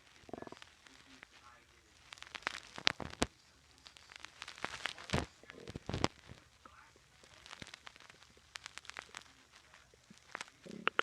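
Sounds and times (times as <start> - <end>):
stomach gurgling: 0.0 - 11.0.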